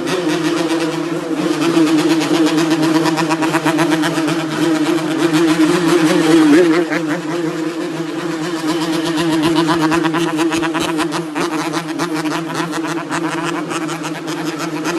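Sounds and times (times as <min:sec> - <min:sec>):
two-stroke motorcycle engine revving: 0:00.0 - 0:14.9.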